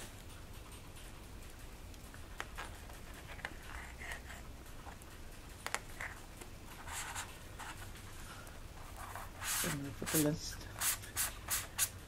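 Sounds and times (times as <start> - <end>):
soft rustling: 0.0 - 10.9.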